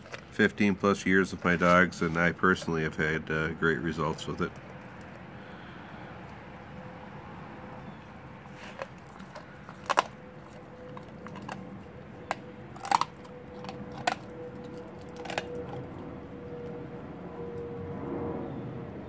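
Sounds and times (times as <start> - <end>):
dog crunching bones: 0.0 - 5.4, 6.2 - 16.9.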